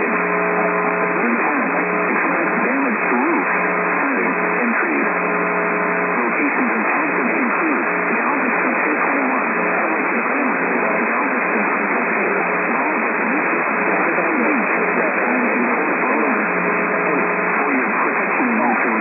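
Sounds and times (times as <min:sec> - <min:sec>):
heavy radio static: 0:00.0 - 0:19.0
muffled radio voice speaking: 0:00.0 - 0:19.0.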